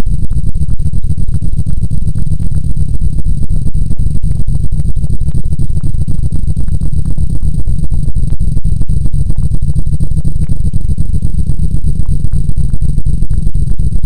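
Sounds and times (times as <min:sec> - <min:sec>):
fluttering low rumbling noise: 0:00.0 - 0:14.0.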